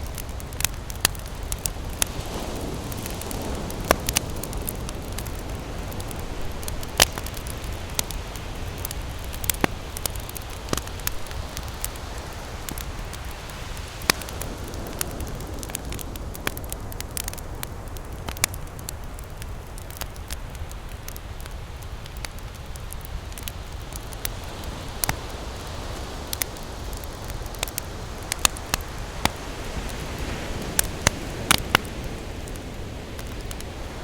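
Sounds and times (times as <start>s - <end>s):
ocean surf: 0.0s - 21.2s, 21.8s - 34.0s
campfire crackling: 0.0s - 34.0s
fire popping: 0.0s - 34.0s.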